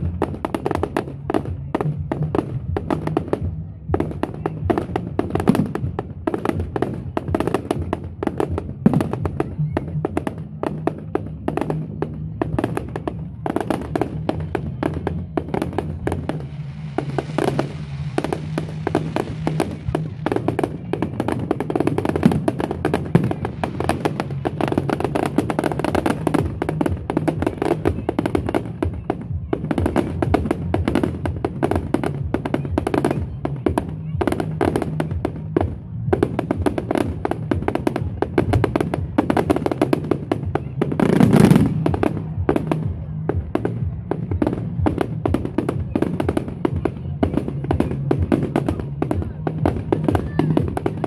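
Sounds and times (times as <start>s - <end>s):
firework bursts and crackling: 0.0s - 51.0s.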